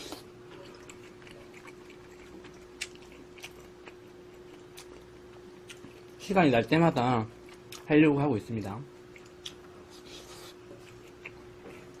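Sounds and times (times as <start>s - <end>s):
soft chewing: 0.0s - 6.4s, 7.2s - 8.0s, 9.0s - 12.0s
faint hum: 0.0s - 12.0s.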